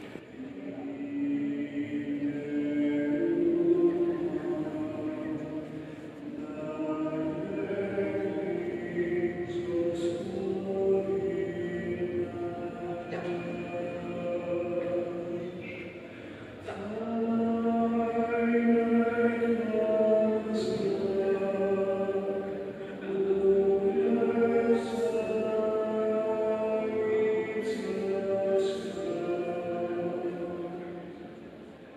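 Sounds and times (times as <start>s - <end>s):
choir singing a slow chant: 0.0s - 31.9s.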